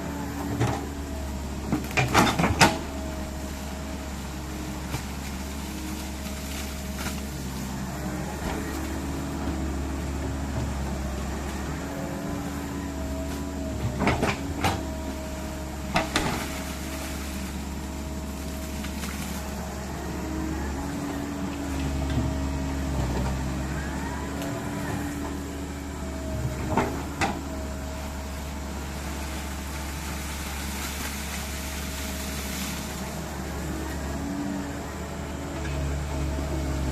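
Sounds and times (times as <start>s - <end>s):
excavator diesel drone: 0.0s - 36.9s.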